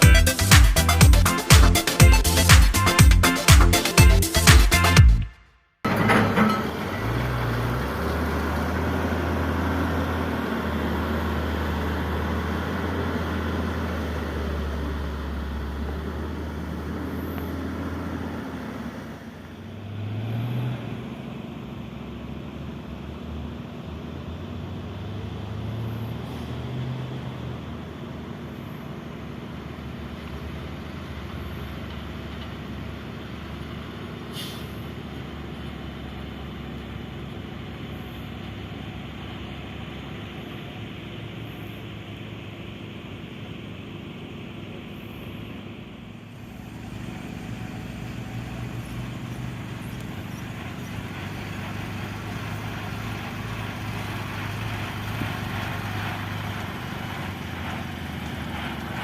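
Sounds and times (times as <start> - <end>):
excavator diesel engine running: 0.0 - 5.2, 5.9 - 19.7, 27.5 - 59.0.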